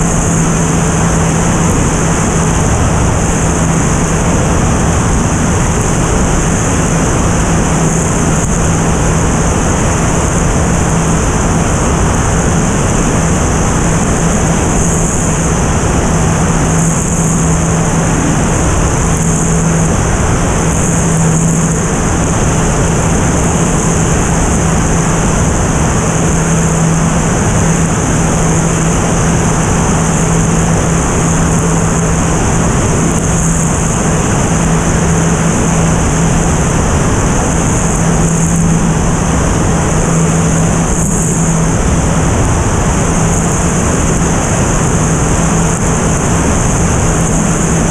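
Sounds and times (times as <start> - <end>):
propeller aircraft engine drone: 0.0 - 47.9
rushing air noise: 0.0 - 47.9.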